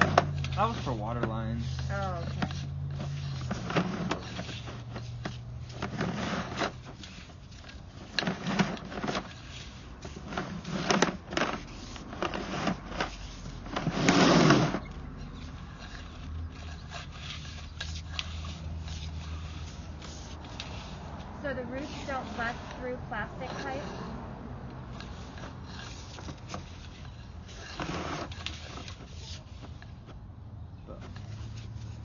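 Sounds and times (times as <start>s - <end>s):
cable scraping and knocking: 0.0s - 30.2s, 30.8s - 32.0s.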